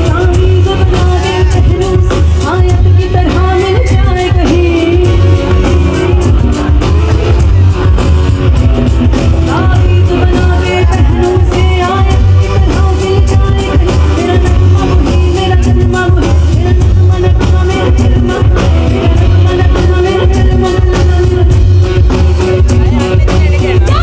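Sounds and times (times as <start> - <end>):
heavy bass beat: 0.0 - 24.0
person singing over music: 0.0 - 24.0.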